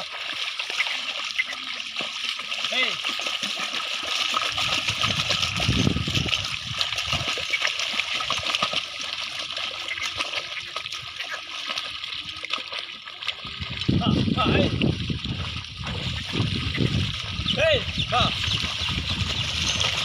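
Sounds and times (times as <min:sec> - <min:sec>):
water and mud splashing: 0:00.0 - 0:20.0.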